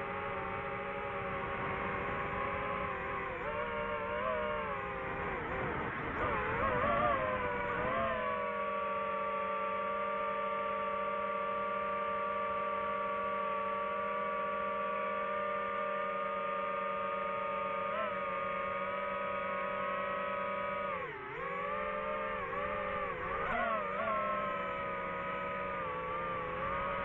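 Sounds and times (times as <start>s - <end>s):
drone propellers whining: 0.0s - 27.0s.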